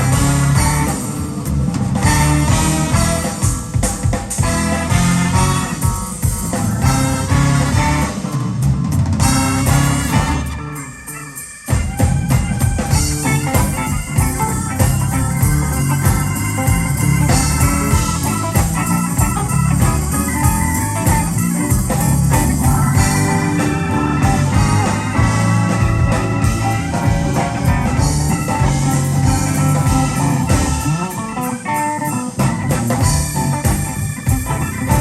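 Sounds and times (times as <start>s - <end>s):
blues band playing: 0.0s - 35.0s
lead guitar: 0.0s - 35.0s.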